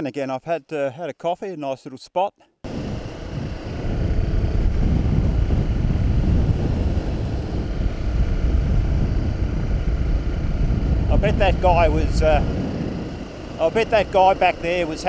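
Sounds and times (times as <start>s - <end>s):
motorcycle engine running: 2.7s - 15.0s
wind buffeting microphone: 2.7s - 15.0s.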